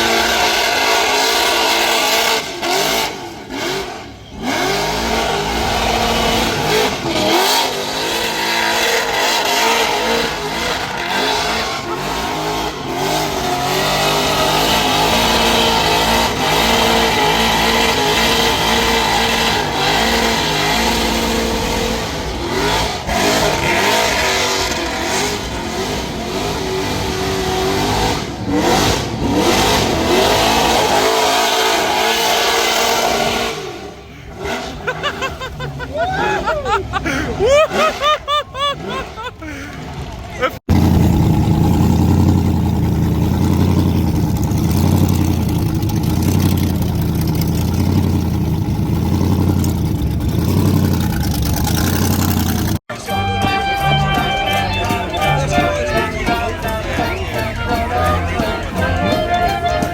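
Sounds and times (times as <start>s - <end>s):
car engine revving hard: 0.0s - 52.9s.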